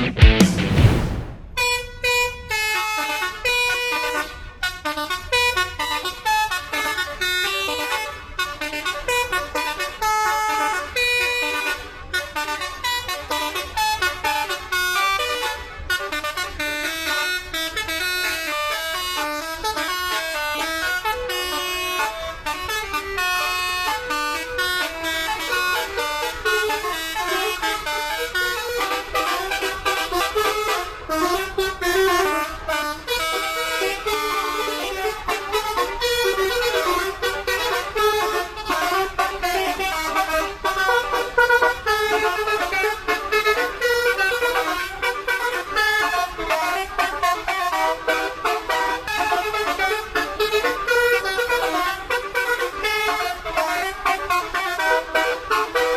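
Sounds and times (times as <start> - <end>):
musical air horns playing tunes: 2.9 - 55.9.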